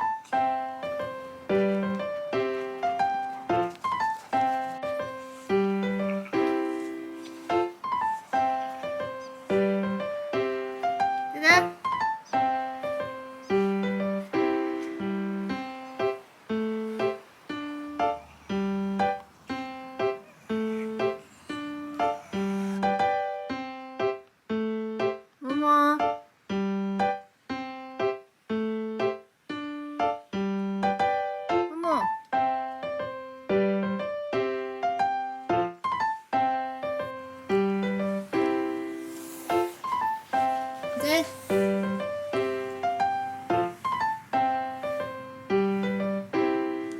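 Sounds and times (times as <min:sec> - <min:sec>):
light piano melody: 0:00.0 - 0:46.9.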